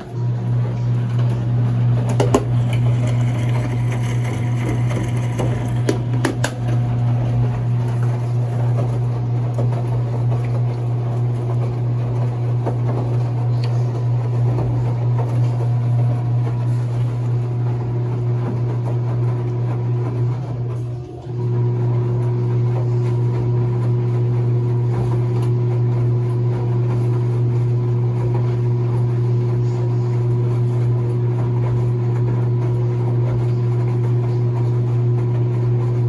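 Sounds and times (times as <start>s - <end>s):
washing machine motor hum: 0.0s - 36.0s.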